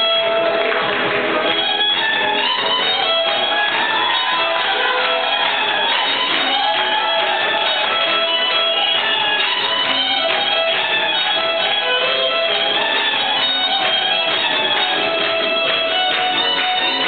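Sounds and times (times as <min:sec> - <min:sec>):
band accompaniment: 0:00.0 - 0:17.0
violin melody with sliding notes: 0:00.0 - 0:17.0.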